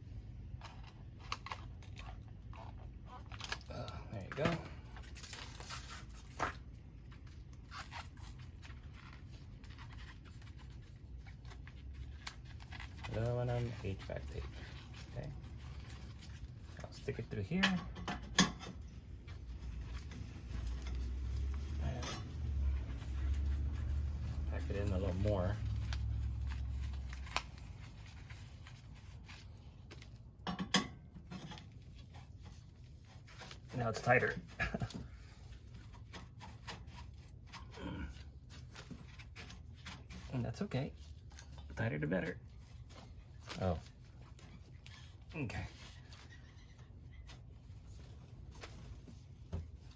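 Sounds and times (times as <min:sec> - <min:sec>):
foil tape crinkling and scraping: 0:00.4 - 0:17.7, 0:18.6 - 0:30.5, 0:31.2 - 0:49.9.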